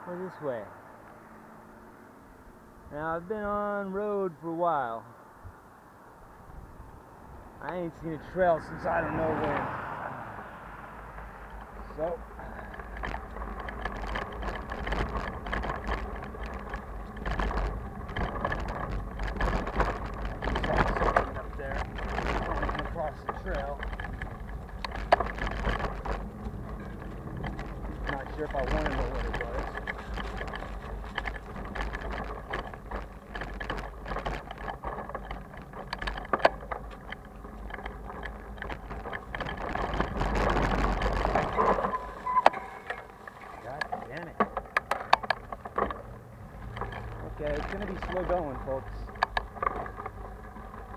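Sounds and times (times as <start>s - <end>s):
low steady rumble: 0.0s - 50.9s
bike and bags rattling: 6.2s - 10.0s, 10.7s - 50.9s
tyres crunching on dirt: 6.3s - 50.9s.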